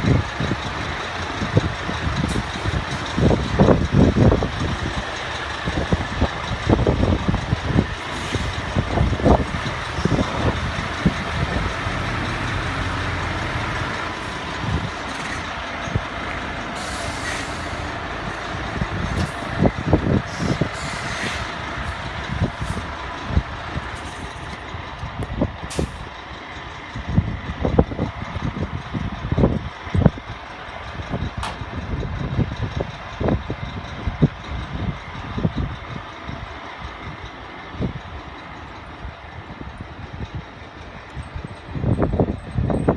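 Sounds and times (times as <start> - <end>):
truck mechanical hum: 0.0 - 42.9.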